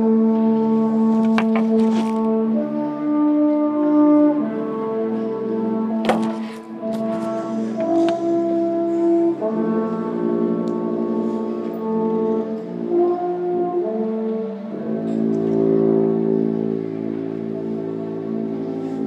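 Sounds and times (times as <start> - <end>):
wind ensemble sustained chords: 0.0 - 19.0.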